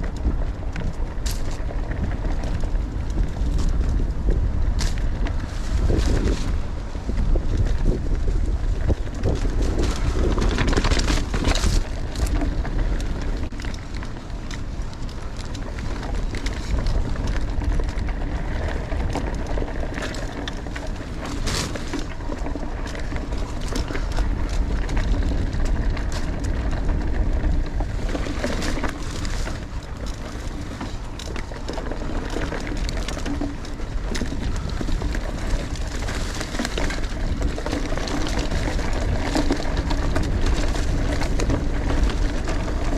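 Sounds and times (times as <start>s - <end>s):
bike clattering over bumps: 0.0s - 42.9s
tyre rumble on dirt: 0.0s - 42.9s
wind rushing over microphone: 0.0s - 42.9s.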